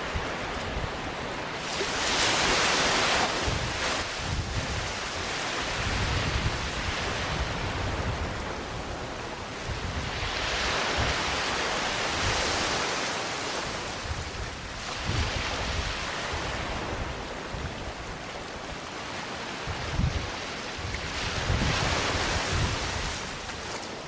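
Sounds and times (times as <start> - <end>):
small waves on sandy beach: 0.0 - 24.0
wind gusts on microphone: 0.0 - 24.0.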